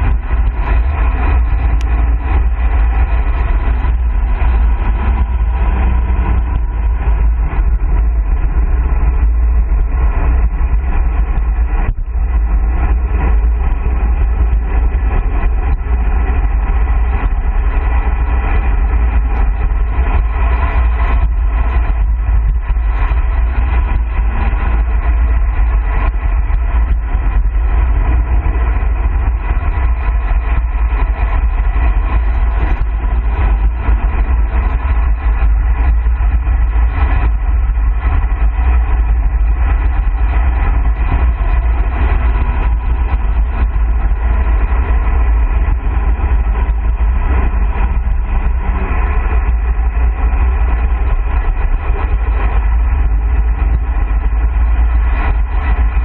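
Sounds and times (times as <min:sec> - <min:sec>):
wind rushing on microphone: 0:00.0 - 0:56.0.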